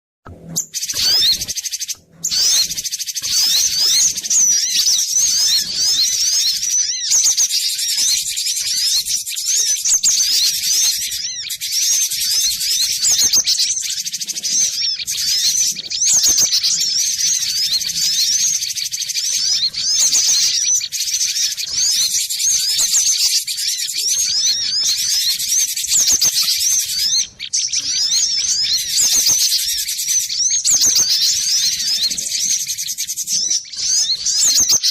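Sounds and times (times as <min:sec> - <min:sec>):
bird chirping fast: 0:00.3 - 0:34.9.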